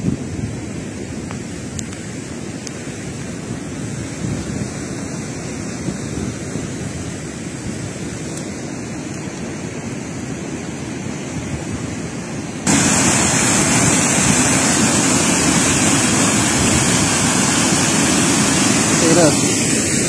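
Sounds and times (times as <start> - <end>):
floodwater rushing: 1.4 - 20.0.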